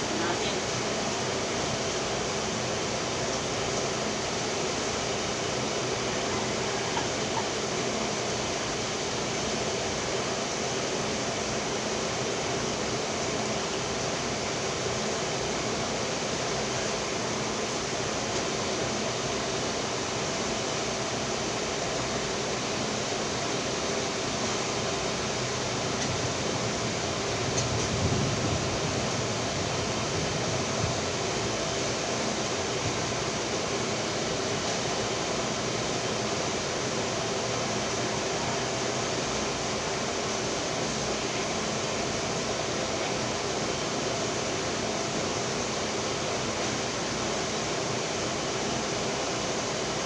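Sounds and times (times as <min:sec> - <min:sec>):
steady rushing background noise: 0:00.0 - 0:50.0.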